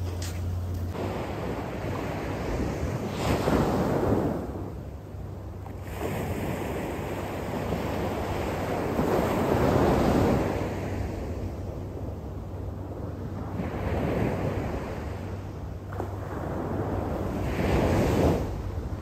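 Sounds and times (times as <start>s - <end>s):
small waves breaking on shore: 0.9s - 19.0s.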